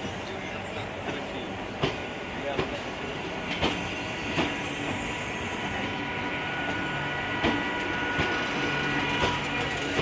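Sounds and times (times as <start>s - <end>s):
electric train humming: 0.0s - 10.0s.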